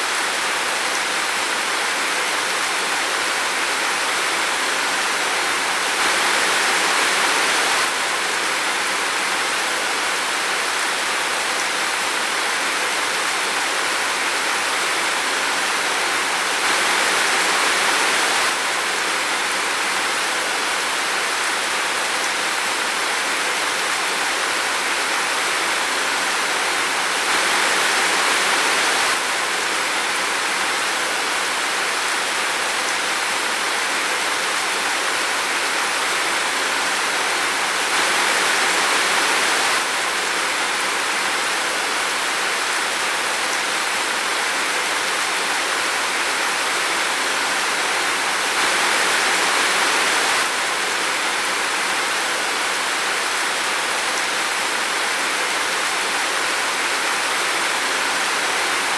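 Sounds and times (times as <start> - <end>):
rain on foliage: 0.0 - 58.9.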